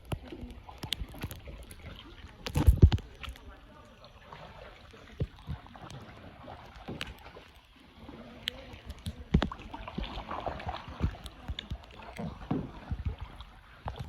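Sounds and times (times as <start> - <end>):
paddle splashing in water: 0.0 - 14.0.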